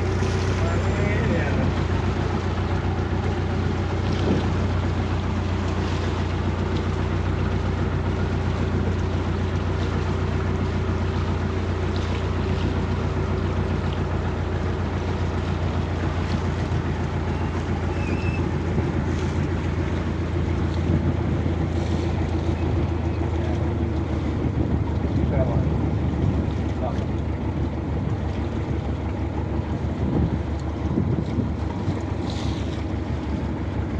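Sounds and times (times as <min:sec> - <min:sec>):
boat engine humming: 0:00.0 - 0:33.9.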